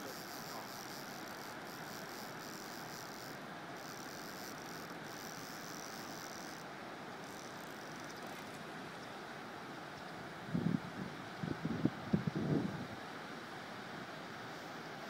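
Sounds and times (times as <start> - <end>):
thin high hiss: 0.0 - 15.0.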